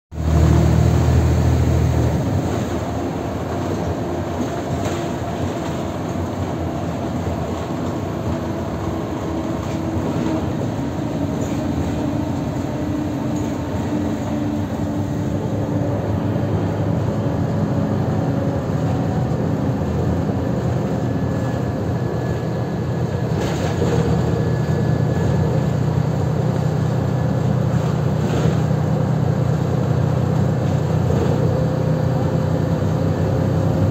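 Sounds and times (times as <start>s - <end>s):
bus engine drone: 0.1s - 33.9s
road noise: 0.1s - 33.9s.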